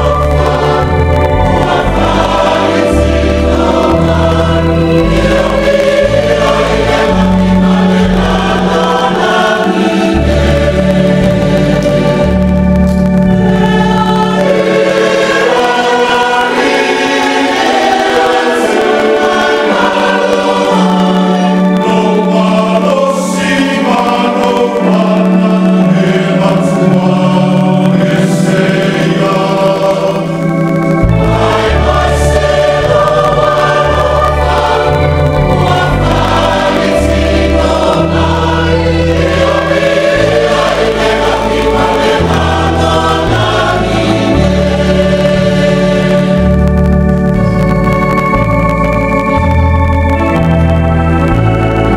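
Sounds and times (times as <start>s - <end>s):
deep bass notes: 0.0s - 16.6s, 24.9s - 51.9s
congregation singing a hymn: 0.0s - 51.9s.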